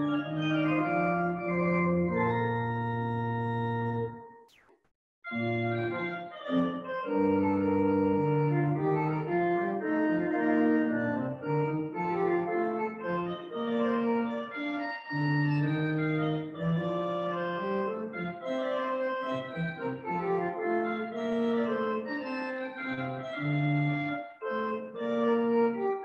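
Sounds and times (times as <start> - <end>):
pipe organ playing chords: 0.0 - 4.2, 5.3 - 26.0.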